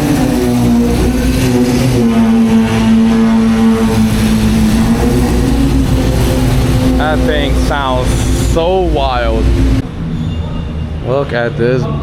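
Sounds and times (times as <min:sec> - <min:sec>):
car engine revving loudly: 0:00.0 - 0:10.0.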